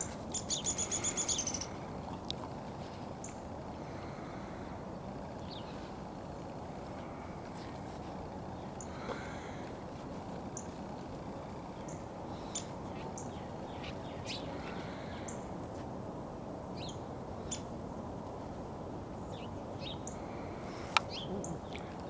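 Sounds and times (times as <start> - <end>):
small birds chirping: 0.0 - 15.8, 16.7 - 18.1, 19.1 - 22.0
outdoor hiss: 0.0 - 22.0.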